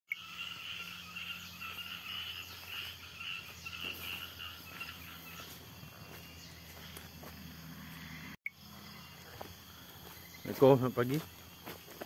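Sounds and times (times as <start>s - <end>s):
frogs calling: 0.1s - 12.0s.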